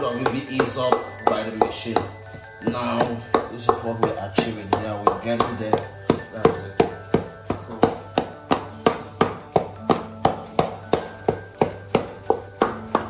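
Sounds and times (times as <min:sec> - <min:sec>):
wooden pestle pounding paste: 0:00.0 - 0:13.0.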